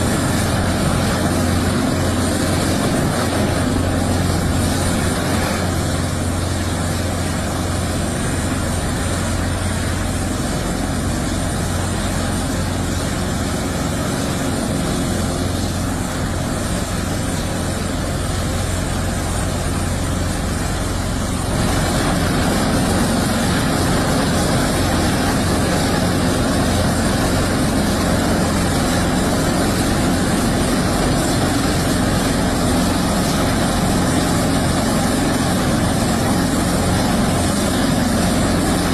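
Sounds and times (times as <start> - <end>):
helicopter rotor and engines: 0.0 - 38.9.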